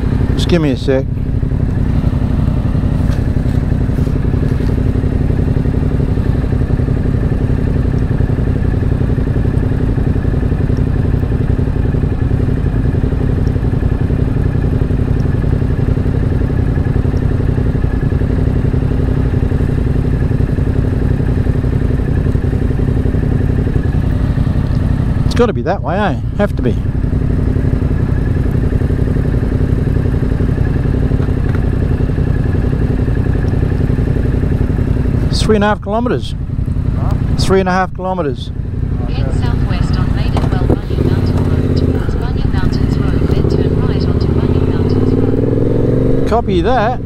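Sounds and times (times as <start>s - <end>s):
motorcycle engine idling: 0.0s - 47.0s.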